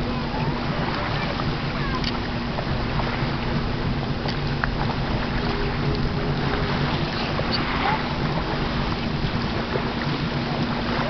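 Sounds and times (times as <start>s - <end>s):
boat motor humming: 0.0s - 11.0s
wind buffeting microphone: 0.0s - 11.0s.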